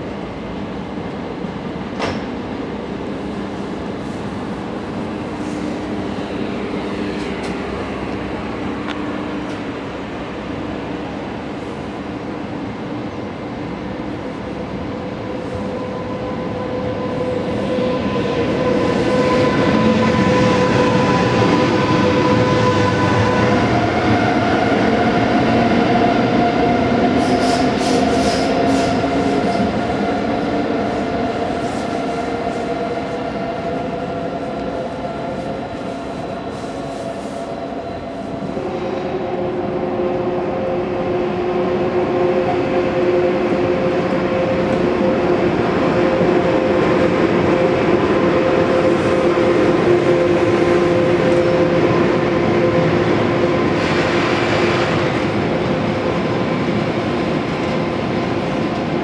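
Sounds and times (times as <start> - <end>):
freight train rolling past: 0.0 - 59.0
wheels rumbling on rail: 0.0 - 59.0
electric locomotive whining: 3.6 - 59.0.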